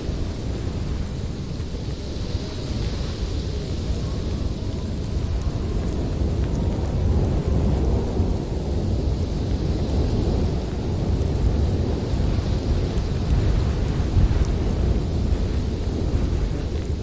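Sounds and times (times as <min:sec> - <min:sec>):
gusting snowstorm wind: 0:00.0 - 0:17.0.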